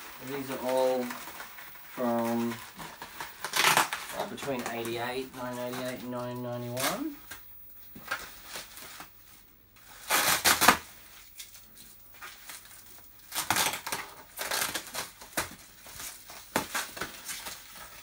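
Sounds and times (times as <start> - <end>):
bubble wrap crinkling and tearing: 0.0 - 18.0.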